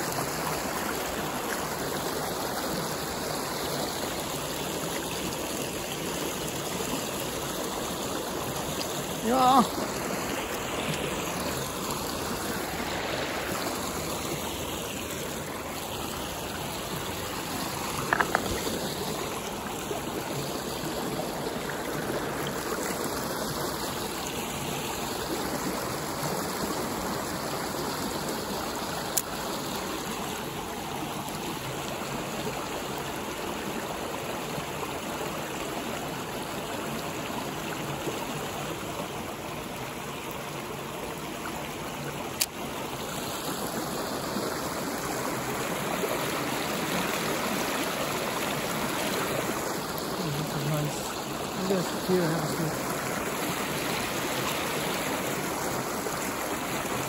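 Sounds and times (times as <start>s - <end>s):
water running over rocks: 0.0s - 57.0s.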